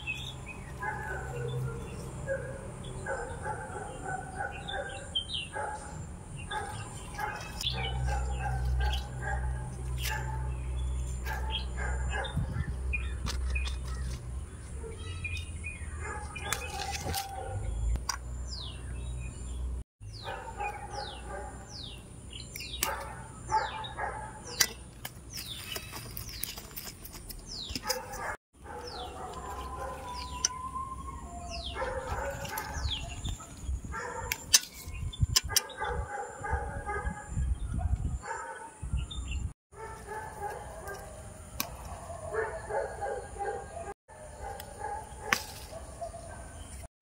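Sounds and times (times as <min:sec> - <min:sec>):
birds chirping downward calls: 0:00.0 - 0:46.9.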